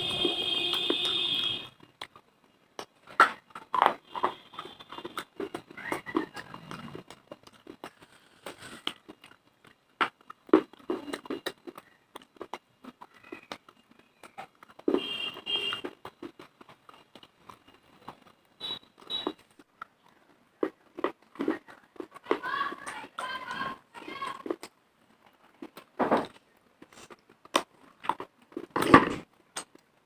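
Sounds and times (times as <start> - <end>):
teeth crunching dry clay: 0.1 - 30.0.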